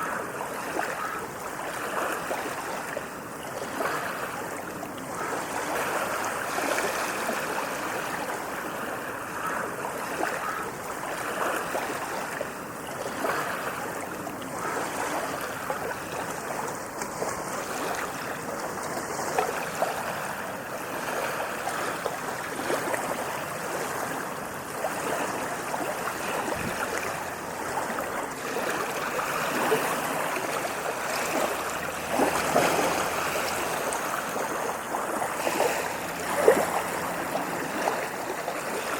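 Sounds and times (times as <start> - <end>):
waves washing over sand: 0.0 - 38.9.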